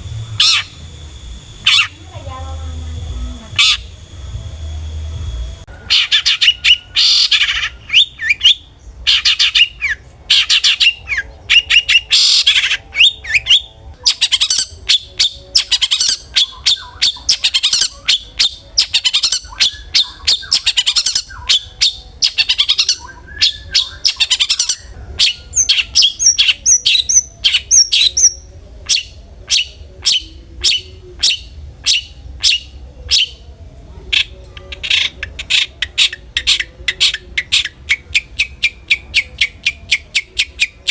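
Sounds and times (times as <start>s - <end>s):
shrike harsh chattering song: 0.0s - 33.4s, 34.1s - 40.9s.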